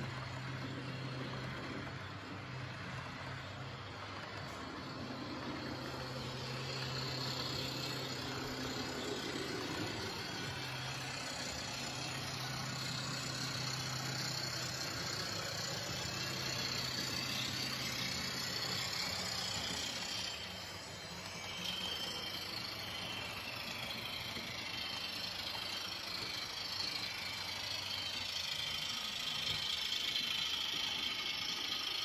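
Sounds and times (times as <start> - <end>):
low motor hum: 0.0 - 32.0
model train wheels rolling on rails: 0.0 - 32.0.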